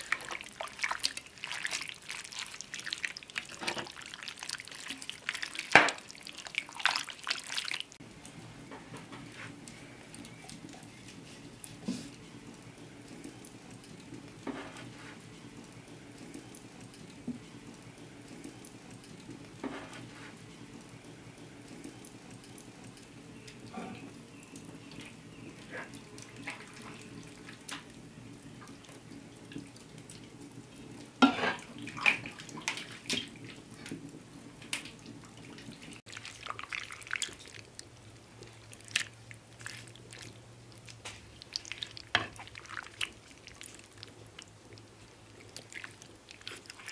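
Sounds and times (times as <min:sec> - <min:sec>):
wet squelching and clicking food: 0:00.0 - 0:08.4, 0:09.0 - 0:46.9.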